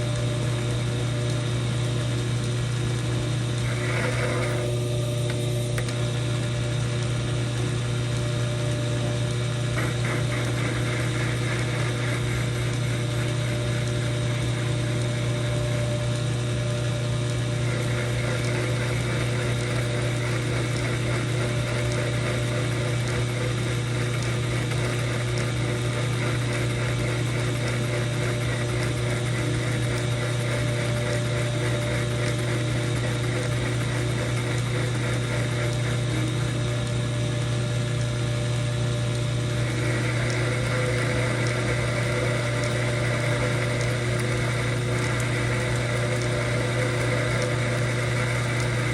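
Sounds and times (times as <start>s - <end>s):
metal lathe humming: 0.0s - 48.9s.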